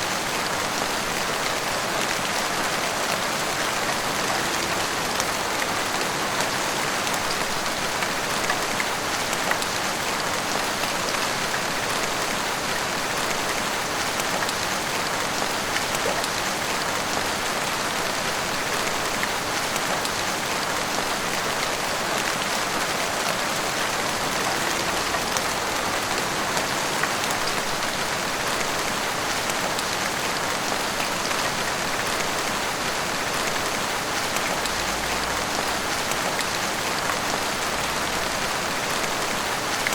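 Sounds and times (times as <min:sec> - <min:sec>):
heavy rain pattering on hard surfaces: 0:00.0 - 0:39.9.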